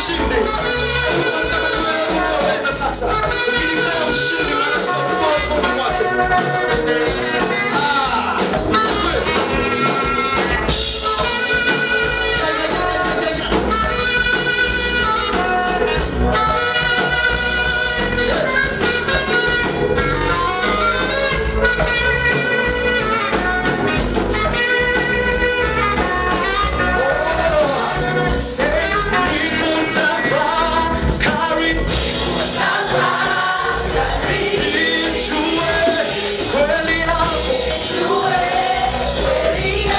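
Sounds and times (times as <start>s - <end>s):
group singing gospel: 0.0s - 21.5s, 26.2s - 39.9s
live band with steady beat: 0.0s - 39.9s.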